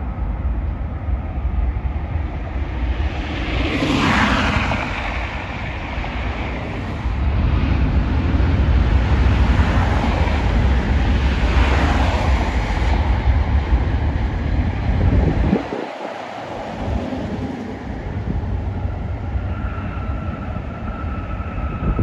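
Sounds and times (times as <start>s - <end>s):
jet engines roaring: 0.0s - 22.0s
wind buffeting microphone: 0.0s - 22.0s.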